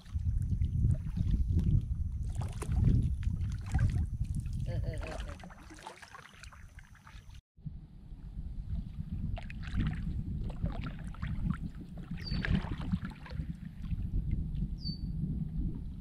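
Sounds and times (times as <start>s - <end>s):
wind rumble on microphone: 0.0s - 5.4s, 7.6s - 16.0s
water lapping and splashing: 0.0s - 7.4s, 8.6s - 14.6s.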